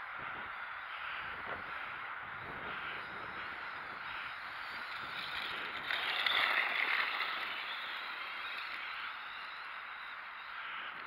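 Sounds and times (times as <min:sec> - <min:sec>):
rc truck running through snow: 0:00.0 - 0:11.0.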